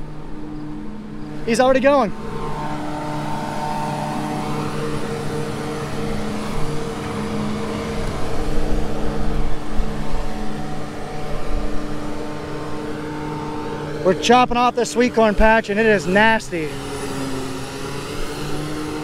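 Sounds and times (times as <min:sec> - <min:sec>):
harvester engine humming and whining: 0:00.0 - 0:19.0
low rumbling: 0:00.0 - 0:19.0.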